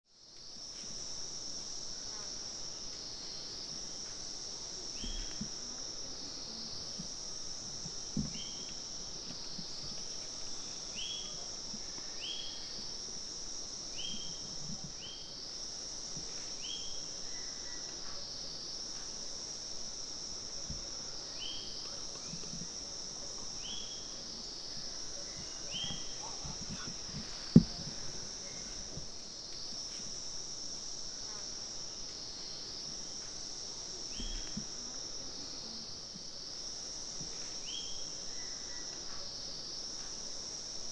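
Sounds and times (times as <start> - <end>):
forest insects chorus: 0.1 - 40.9.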